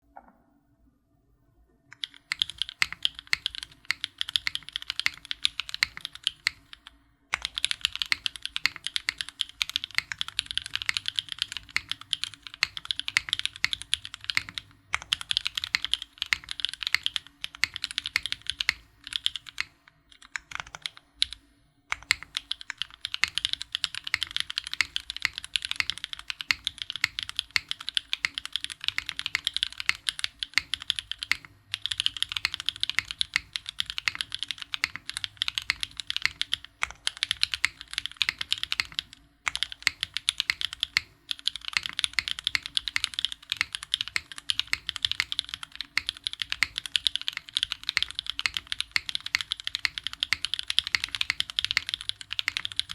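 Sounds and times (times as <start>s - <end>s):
fast mechanical keyboard typing: 2.0s - 52.9s.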